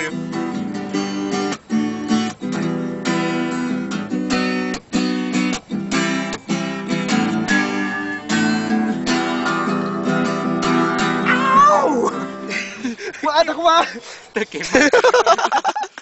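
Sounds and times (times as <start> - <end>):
acoustic guitar strumming chords: 0.0 - 13.8.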